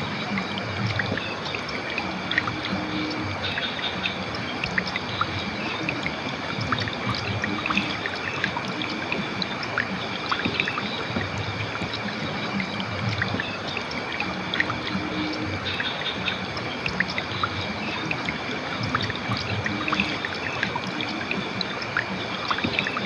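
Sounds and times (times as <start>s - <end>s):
river water flowing: 0.0s - 23.0s
small splashes and gurgles: 0.0s - 23.0s.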